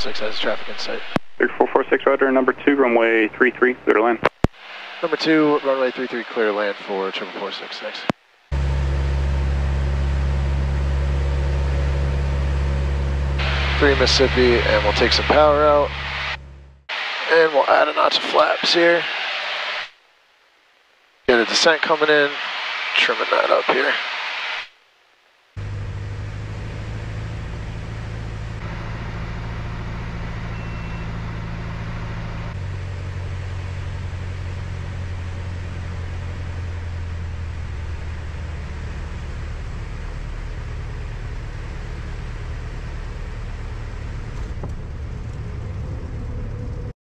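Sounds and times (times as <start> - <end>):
propeller plane engine droning: 0.0 - 19.4, 25.6 - 46.9.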